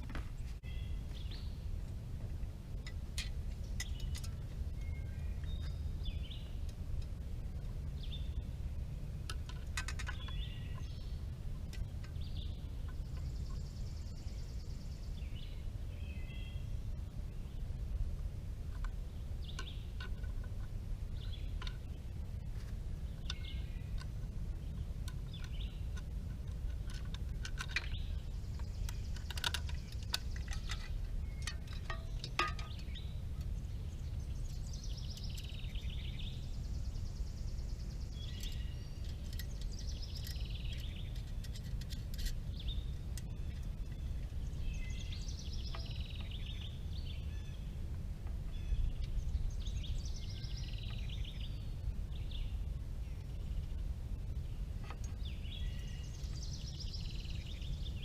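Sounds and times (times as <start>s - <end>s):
birds chirping: 0.0s - 1.9s, 2.7s - 58.0s
low outdoor rumble: 0.0s - 58.0s.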